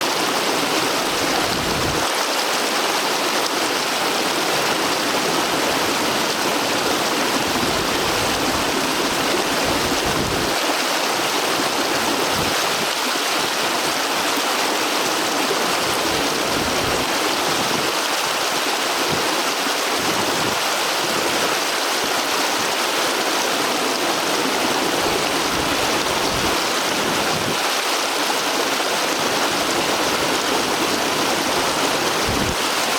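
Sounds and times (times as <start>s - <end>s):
stream rushing over rocks: 0.0s - 32.9s.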